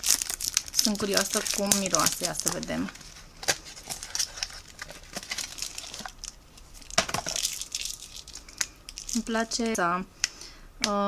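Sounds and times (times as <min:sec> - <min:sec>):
plastic and cardboard rustling: 0:00.0 - 0:09.8.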